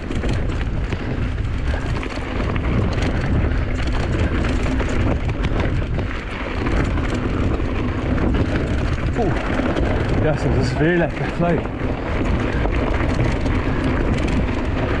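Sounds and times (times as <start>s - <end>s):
bike rattling and clicking: 0.0s - 15.0s
tyres rolling over dirt: 0.0s - 15.0s
wind buffeting microphone: 0.0s - 15.0s.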